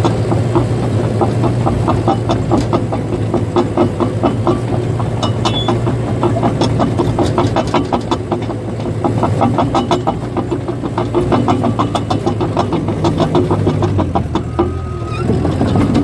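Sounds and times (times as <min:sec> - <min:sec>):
bulldozer diesel engine running: 0:00.0 - 0:16.0
steel tracks clattering: 0:00.0 - 0:16.0.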